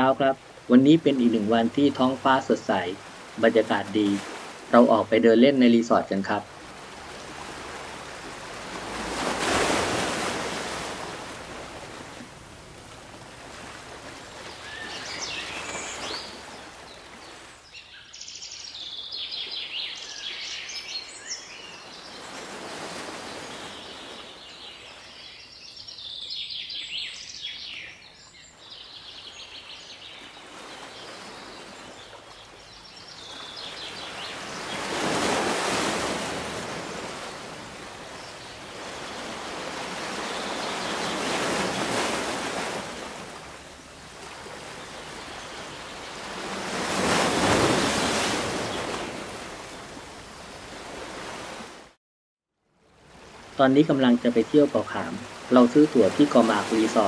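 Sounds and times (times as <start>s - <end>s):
waves washing on beach: 0.0s - 17.6s, 20.1s - 25.0s, 29.6s - 52.0s, 53.0s - 57.0s
birds chirping: 0.0s - 49.4s, 53.1s - 57.0s.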